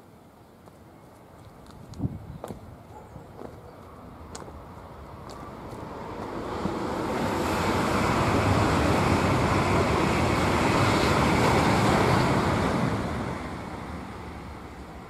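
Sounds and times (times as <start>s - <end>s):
high-speed train passing: 0.3s - 15.0s.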